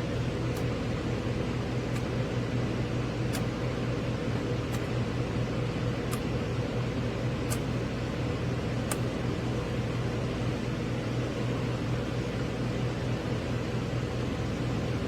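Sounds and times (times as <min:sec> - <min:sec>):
fan air rushing: 0:00.0 - 0:15.0.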